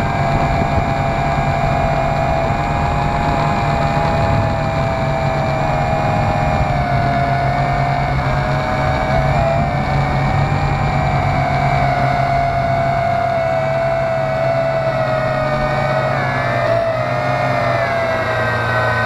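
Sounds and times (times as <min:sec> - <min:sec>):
drone propellers whining: 0:00.0 - 0:19.0
low hum: 0:00.0 - 0:19.0
rushing wind: 0:00.0 - 0:19.0.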